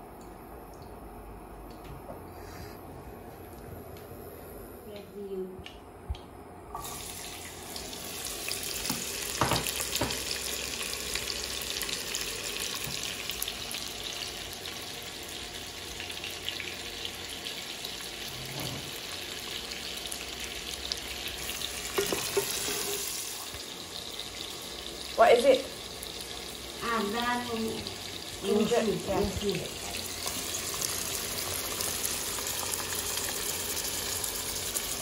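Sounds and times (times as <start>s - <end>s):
onions sizzling in hot oil: 6.8s - 35.0s.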